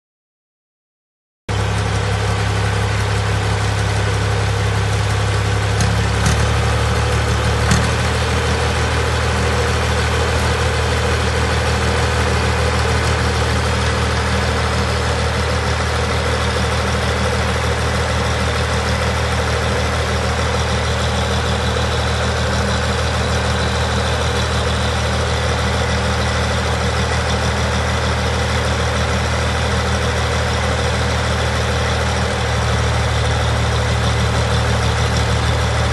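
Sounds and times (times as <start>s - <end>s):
tractor engine idling: 1.5s - 35.9s.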